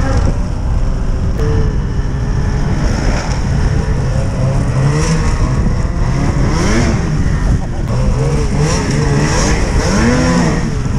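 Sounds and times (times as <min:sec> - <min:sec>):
snowmobile engines rumbling: 0:00.0 - 0:10.9.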